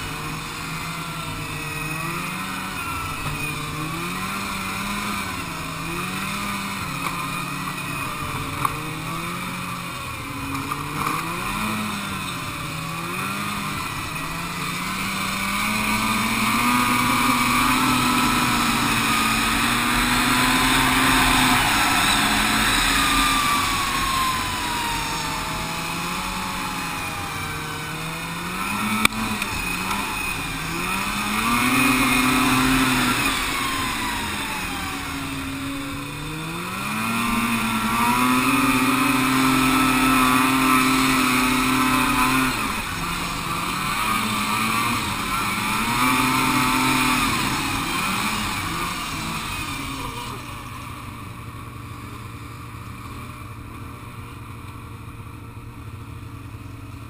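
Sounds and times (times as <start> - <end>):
steady rush of noise: 0.0 - 56.6
snowmobile engine revving: 0.0 - 57.0.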